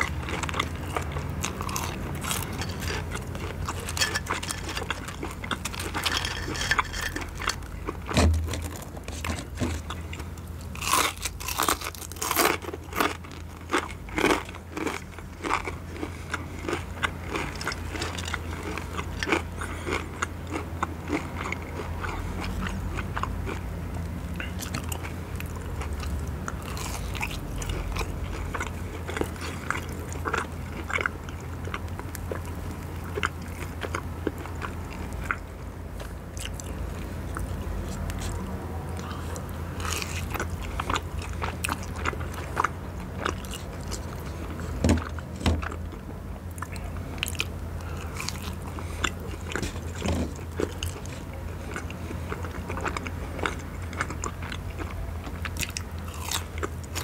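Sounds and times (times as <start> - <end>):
crunching and chewing: 0.0 - 57.0.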